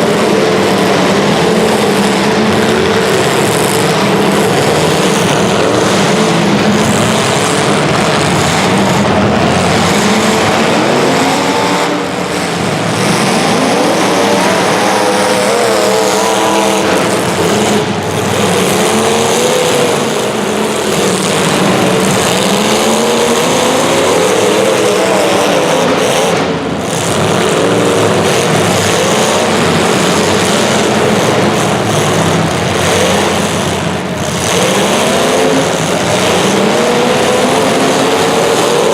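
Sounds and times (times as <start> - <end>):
racing engines accelerating: 0.0 - 38.9.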